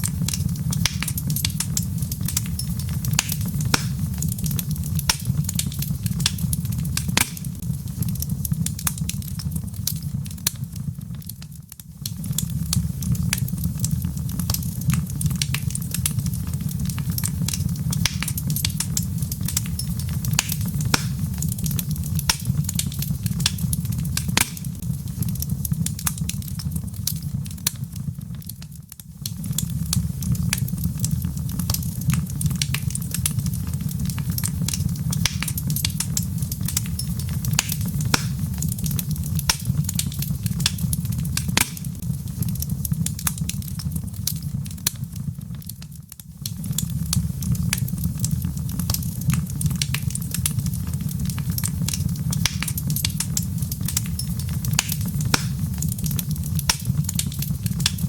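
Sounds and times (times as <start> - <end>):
log fire crackling: 0.0 - 58.0.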